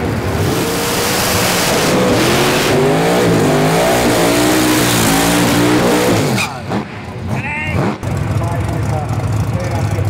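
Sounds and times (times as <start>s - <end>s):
drag car engine at full throttle: 0.0s - 10.0s.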